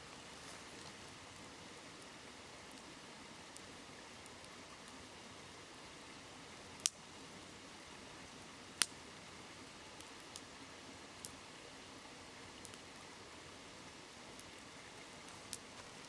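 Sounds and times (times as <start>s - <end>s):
campfire crackling and popping: 0.0s - 7.4s, 8.0s - 11.6s, 12.5s - 16.0s.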